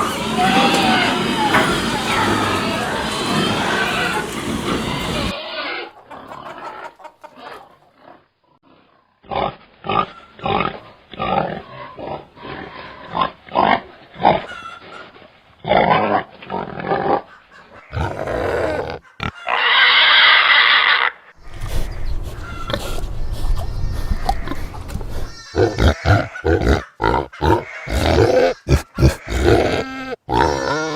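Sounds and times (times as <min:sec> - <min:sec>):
pig calling: 0:00.0 - 0:30.9
pigs grunting: 0:00.0 - 0:30.9.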